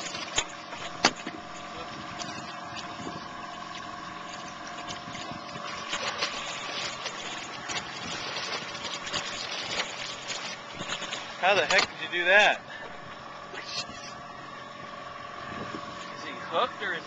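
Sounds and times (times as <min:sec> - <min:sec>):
boat motor whining: 0:00.0 - 0:17.0
water splashing: 0:00.0 - 0:17.0.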